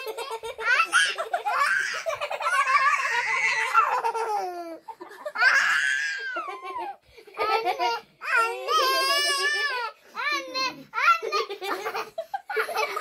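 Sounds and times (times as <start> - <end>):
girls laughing: 0.0 - 9.9, 11.2 - 13.0.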